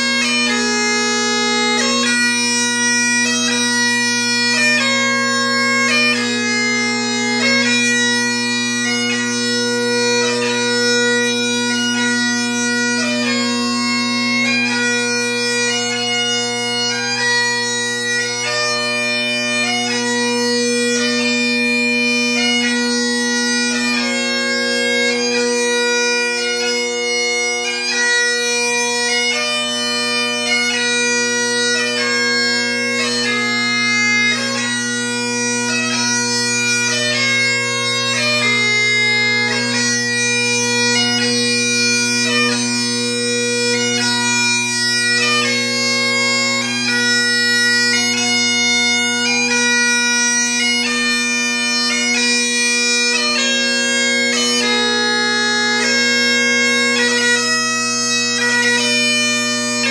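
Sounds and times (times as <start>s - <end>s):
bagpipe chanter melody: 0.0s - 59.9s
bagpipe drones humming: 0.0s - 59.9s.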